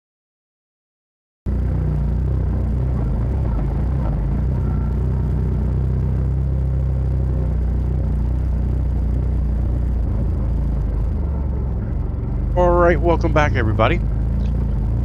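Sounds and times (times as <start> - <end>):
vehicle engine rumbling: 1.5 - 15.0.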